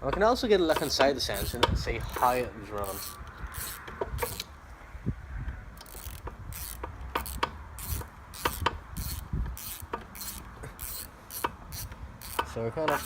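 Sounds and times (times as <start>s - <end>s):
ratchet wrench clicking: 0.7s - 4.5s, 5.8s - 13.0s.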